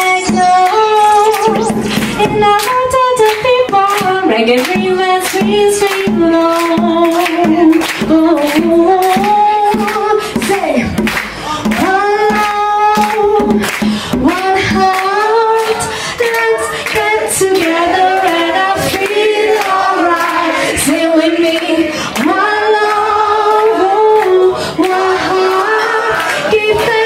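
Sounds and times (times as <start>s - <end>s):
woman singing wordless notes: 0.0s - 27.0s.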